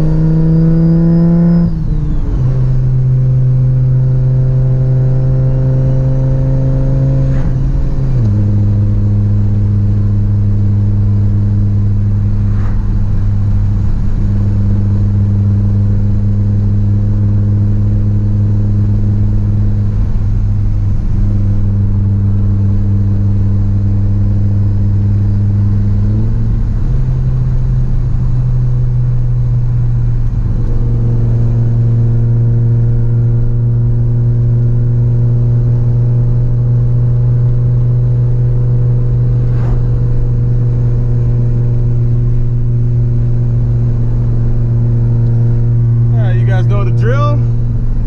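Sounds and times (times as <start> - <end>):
car engine droning from inside cabin: 0.0 - 48.0.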